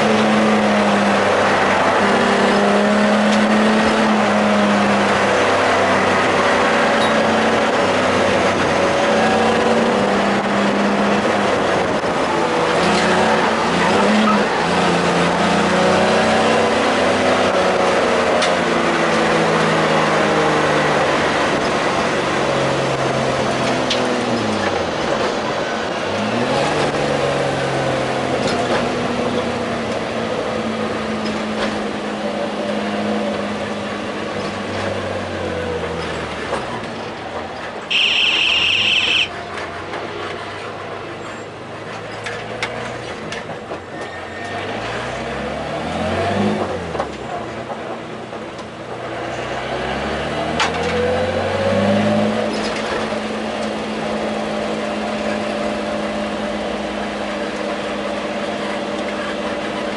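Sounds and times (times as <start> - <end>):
race car engine accelerating: 0.0 - 39.2, 44.4 - 59.9
road and wind noise: 0.0 - 59.9.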